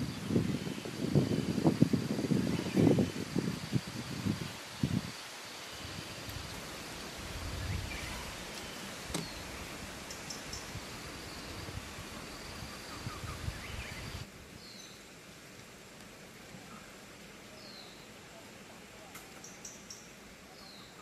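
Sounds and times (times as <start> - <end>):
forest rustling hiss: 0.0 - 21.0.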